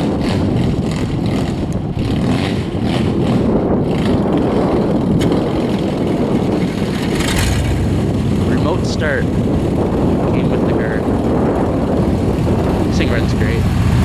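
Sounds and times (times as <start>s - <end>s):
car engine running: 0.0s - 14.0s
wind noise on microphone: 0.0s - 14.0s.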